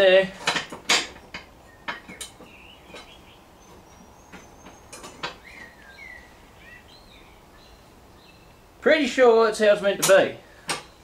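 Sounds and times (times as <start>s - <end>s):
birds chirping: 1.1s - 11.0s.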